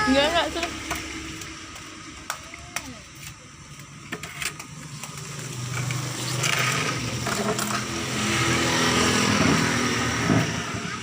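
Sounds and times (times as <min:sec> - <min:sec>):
motor vehicle engine: 0:00.0 - 0:11.0.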